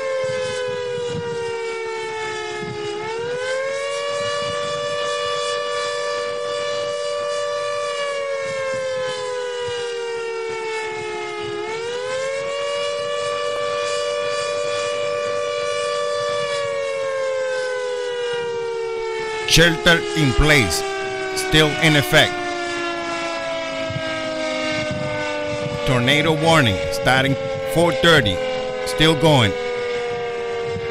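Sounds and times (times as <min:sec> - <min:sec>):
warning siren wailing: 0:00.0 - 0:30.9.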